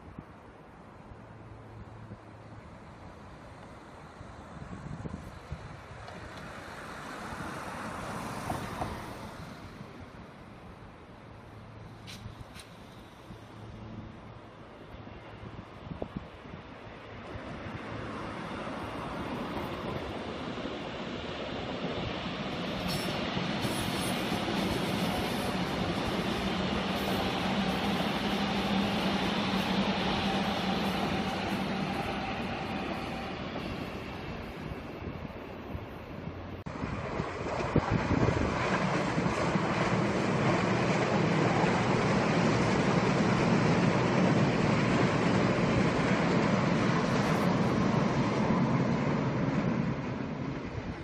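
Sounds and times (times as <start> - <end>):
electric train running on tracks: 0.0 - 51.0.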